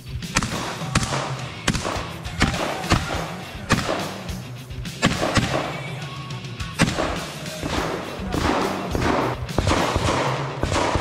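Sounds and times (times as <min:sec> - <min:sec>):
background music: 0:00.0 - 0:11.0
shotgun shots: 0:00.2 - 0:06.0, 0:06.8 - 0:11.0.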